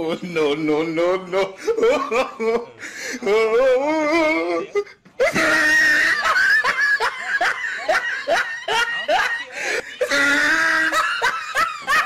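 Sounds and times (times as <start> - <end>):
person laughing rapidly: 1.5 - 12.0.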